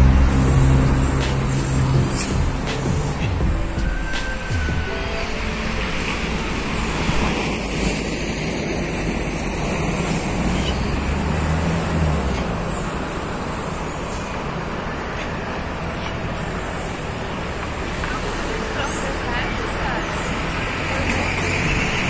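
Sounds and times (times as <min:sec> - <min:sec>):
road traffic noise: 0:00.0 - 0:22.0
vehicle drone: 0:00.0 - 0:22.0
wind: 0:00.0 - 0:22.0.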